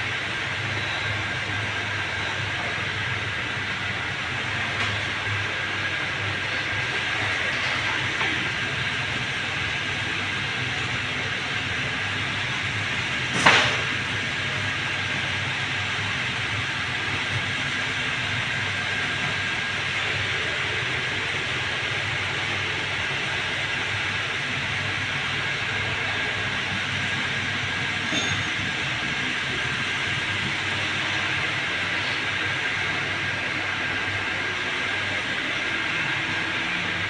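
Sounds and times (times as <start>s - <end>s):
machine running with high whine: 0.0s - 37.0s.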